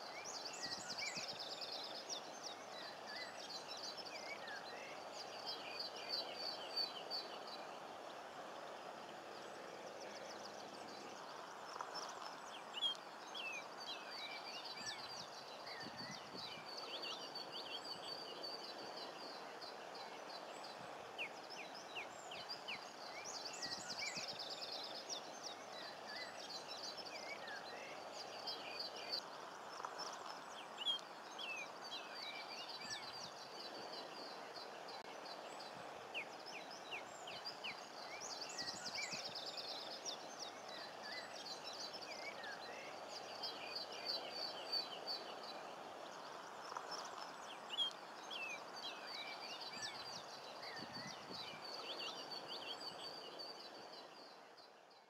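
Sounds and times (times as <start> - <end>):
outdoor background noise: 0.0 - 55.0
small birds chirping: 0.0 - 55.0.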